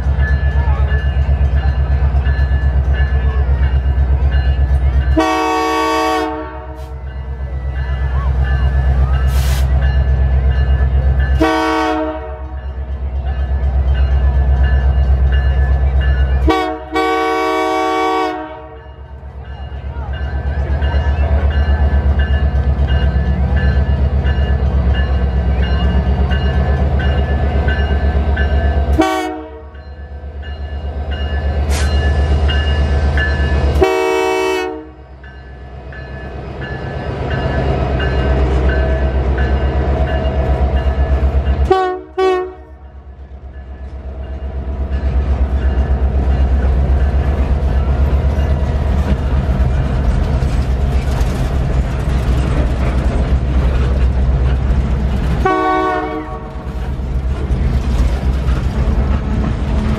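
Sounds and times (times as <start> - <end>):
boxcars rumbling over rails: 0.0 - 59.9
diesel locomotive passing: 0.0 - 59.9.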